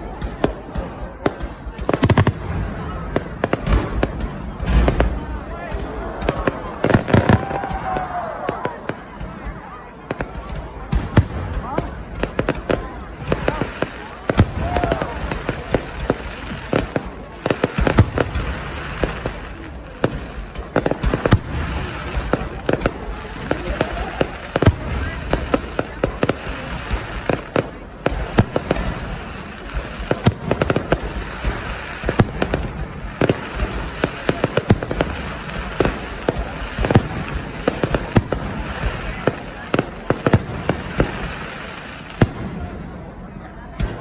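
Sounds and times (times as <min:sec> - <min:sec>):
fireworks bangs and pops: 0:00.0 - 0:44.0.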